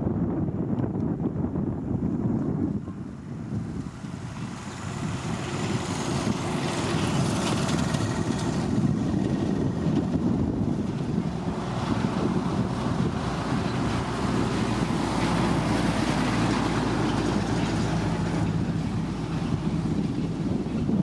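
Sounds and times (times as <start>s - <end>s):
motor grader diesel engine: 2.7s - 21.0s.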